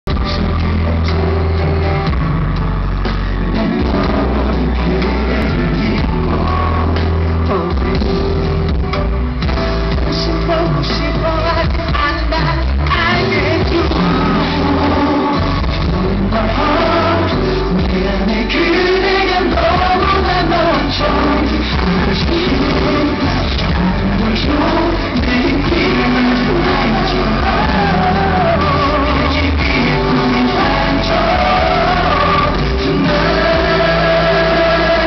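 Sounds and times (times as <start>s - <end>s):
amplified backing music: 0.0s - 35.0s
male vocal group singing: 0.1s - 2.3s, 3.0s - 8.5s, 10.0s - 35.0s.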